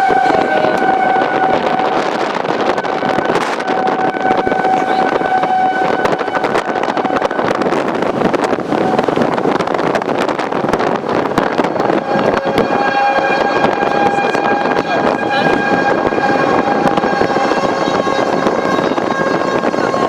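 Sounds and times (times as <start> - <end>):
tornado warning siren: 0.0 - 20.0
wind noise on microphone: 0.0 - 20.0.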